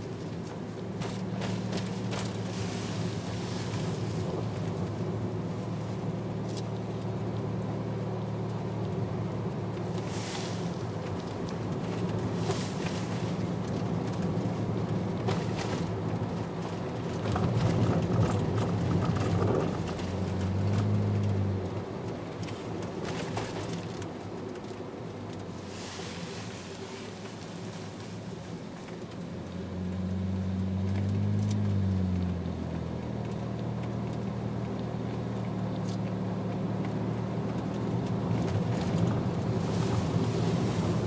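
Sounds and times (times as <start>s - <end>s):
car engine hum and road noise: 0.0s - 41.0s.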